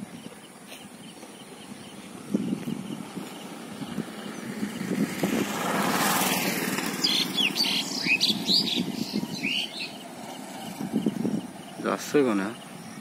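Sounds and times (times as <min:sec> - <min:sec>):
small birds chirping: 0:00.0 - 0:05.4, 0:06.2 - 0:13.0.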